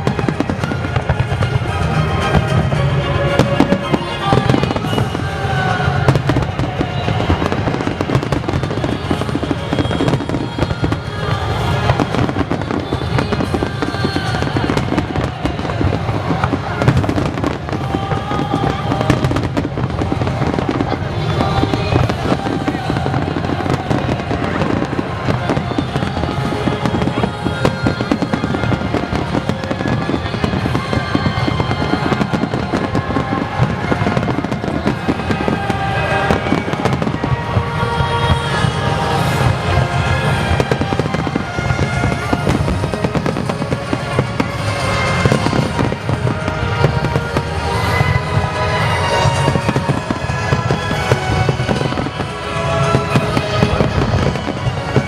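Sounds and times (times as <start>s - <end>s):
fireworks bursting and crackling: 0.0s - 55.0s
music: 0.0s - 55.0s.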